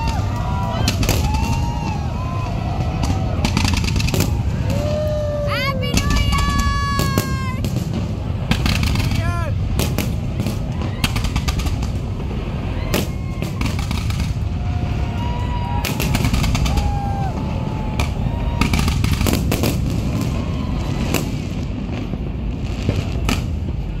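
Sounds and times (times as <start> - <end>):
fireworks bangs and crackles: 0.0 - 24.0
low rumble: 0.0 - 24.0.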